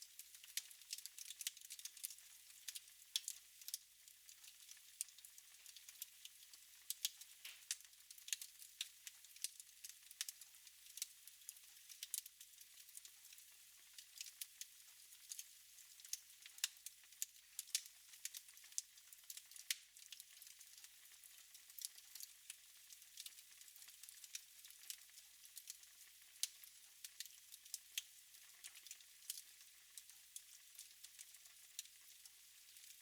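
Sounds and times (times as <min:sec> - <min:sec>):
fire crackling and popping: 0:00.1 - 0:03.8, 0:04.4 - 0:14.4, 0:15.2 - 0:20.8, 0:21.6 - 0:22.3, 0:22.9 - 0:25.0, 0:26.4 - 0:29.4, 0:30.0 - 0:33.0.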